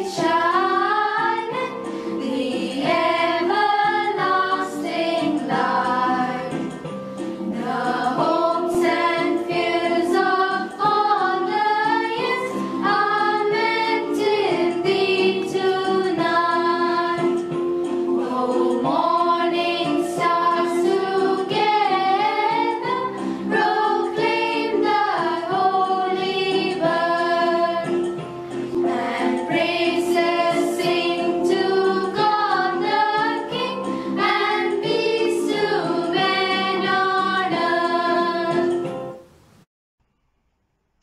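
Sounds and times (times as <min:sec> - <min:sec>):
girls singing together: 0:00.0 - 0:06.8, 0:07.4 - 0:38.8.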